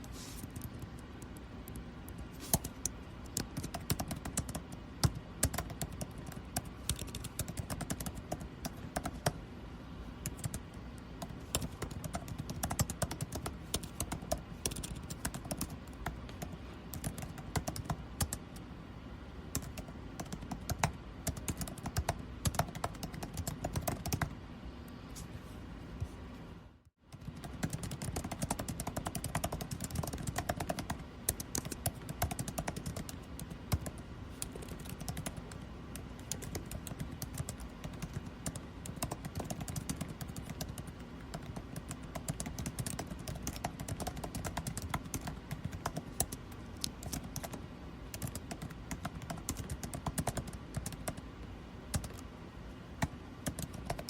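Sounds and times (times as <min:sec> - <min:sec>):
keyboard typing: 0:00.0 - 0:09.4, 0:10.2 - 0:18.7, 0:19.5 - 0:24.3, 0:27.1 - 0:51.3, 0:51.9 - 0:52.2, 0:53.0 - 0:54.0
air conditioning hum: 0:00.0 - 0:54.0.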